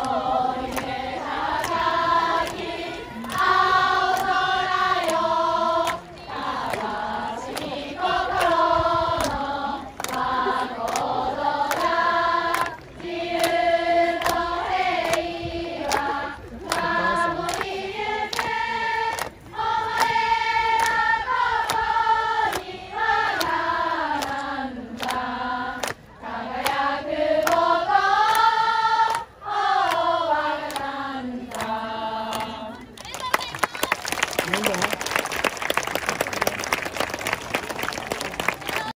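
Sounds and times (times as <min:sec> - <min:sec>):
young women singing in unison: 0:00.0 - 0:33.3.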